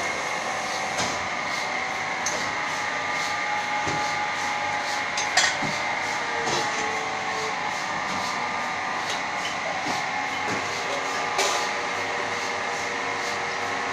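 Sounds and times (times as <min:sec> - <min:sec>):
machine humming and pulsing: 0:00.0 - 0:13.9.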